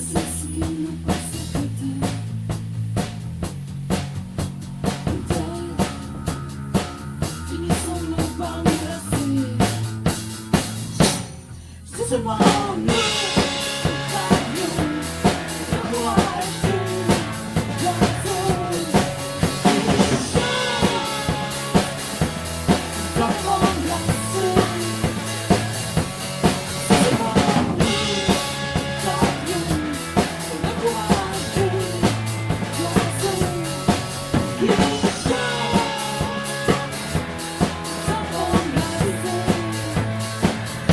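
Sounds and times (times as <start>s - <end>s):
drum kit beat: 0.0s - 40.9s
rock band playing: 0.0s - 40.9s.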